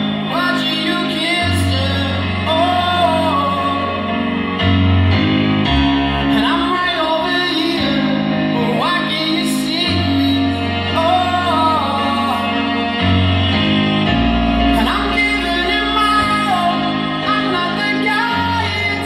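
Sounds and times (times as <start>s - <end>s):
man singing a slow ballad: 0.0s - 4.6s, 6.2s - 13.0s, 14.6s - 19.0s
sustained keyboard chords: 0.0s - 19.0s.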